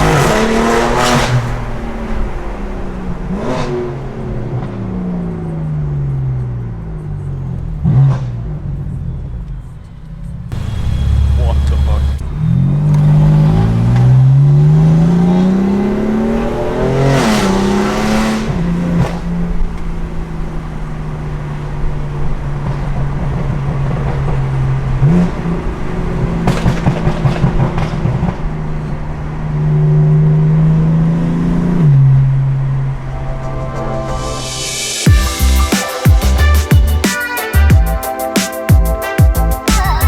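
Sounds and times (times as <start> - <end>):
car engine accelerating: 0.0 - 36.5
exhaust crackles: 0.0 - 38.0.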